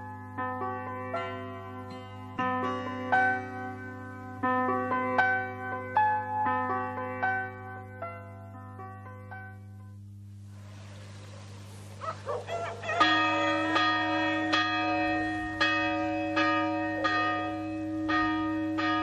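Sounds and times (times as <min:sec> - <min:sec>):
church bell ringing: 0:00.0 - 0:10.2, 0:12.0 - 0:19.0
low steady hum: 0:00.0 - 0:19.0.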